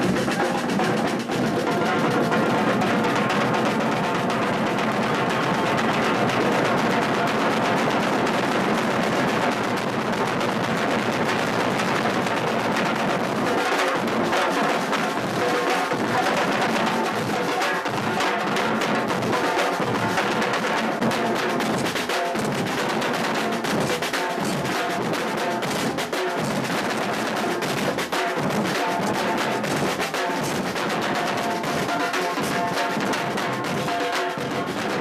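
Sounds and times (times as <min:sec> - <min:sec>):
percussion group drumming: 0:00.0 - 0:35.0.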